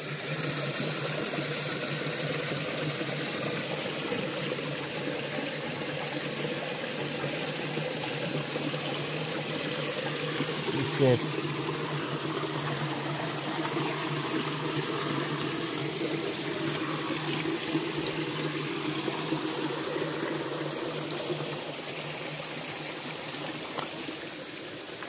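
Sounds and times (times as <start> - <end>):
river water running and trickling: 0.0 - 25.0.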